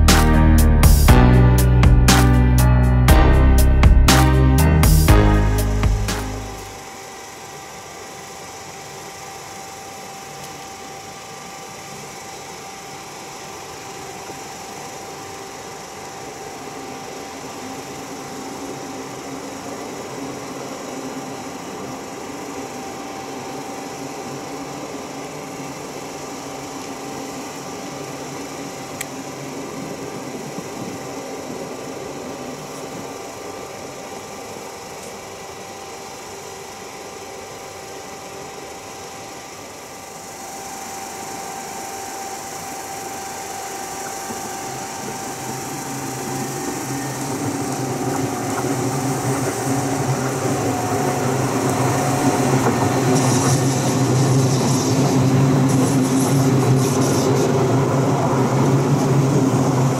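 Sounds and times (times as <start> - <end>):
distant electric train rumble: 0.0 - 59.9.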